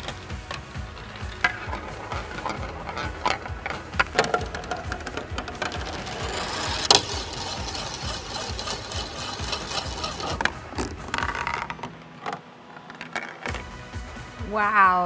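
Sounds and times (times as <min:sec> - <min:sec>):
marble rattling through tracks: 0:00.0 - 0:13.7.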